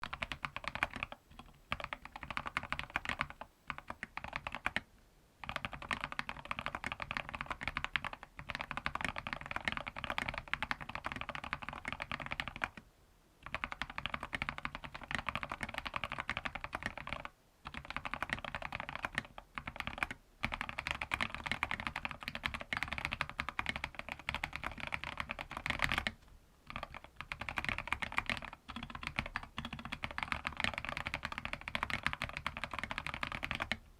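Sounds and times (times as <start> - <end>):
mechanical keyboard typing: 0.0 - 4.8, 5.4 - 12.8, 13.4 - 33.8.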